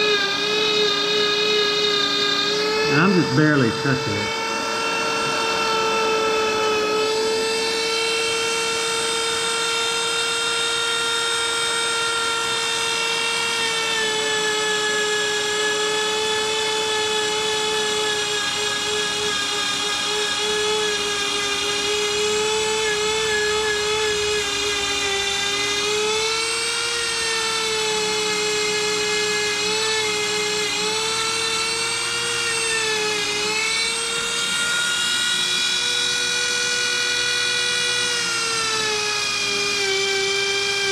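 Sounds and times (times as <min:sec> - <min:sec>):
rotary tool whining on metal: 0:00.0 - 0:40.9.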